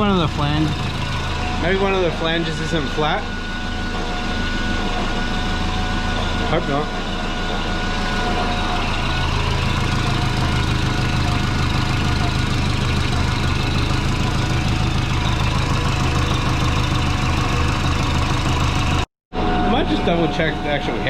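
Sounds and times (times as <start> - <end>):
car engine idling: 0.0 - 19.1
exhaust leak chuffing: 0.0 - 19.1.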